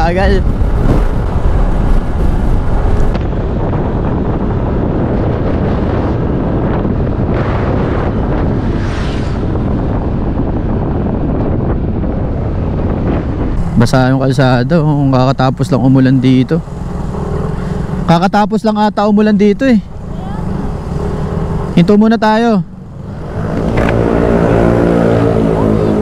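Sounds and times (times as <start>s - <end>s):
scooter engine and road noise: 0.0s - 26.0s
wind buffeting microphone: 0.0s - 26.0s.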